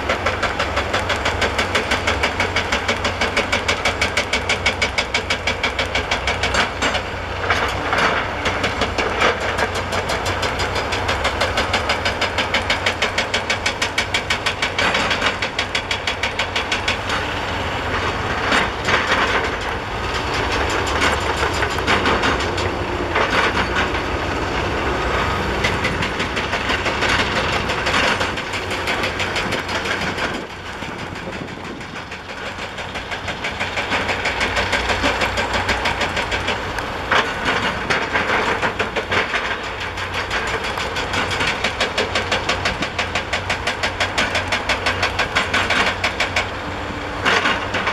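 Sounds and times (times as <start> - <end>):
hydraulic breaker hammering rock: 0.0 - 17.3, 18.0 - 24.0, 25.5 - 46.6, 47.2 - 47.9
diesel engines running: 0.0 - 47.9.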